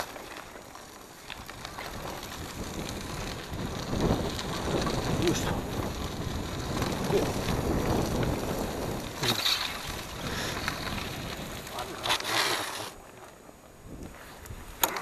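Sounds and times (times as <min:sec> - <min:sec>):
bike rattling: 0:00.0 - 0:15.0
bike tyres rumbling on gravel: 0:00.0 - 0:15.0.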